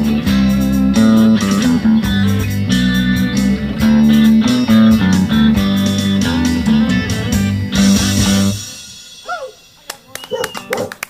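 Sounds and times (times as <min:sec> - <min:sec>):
band playing instrumental: 0:00.0 - 0:10.9.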